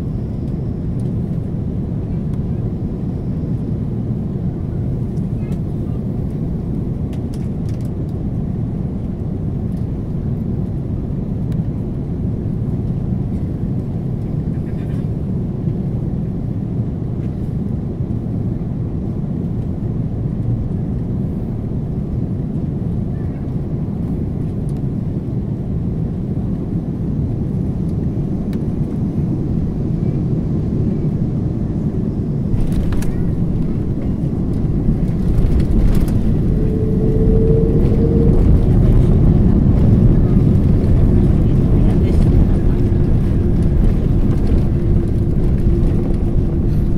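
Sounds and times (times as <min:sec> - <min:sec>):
engine and air rumble: 0:00.0 - 0:46.9.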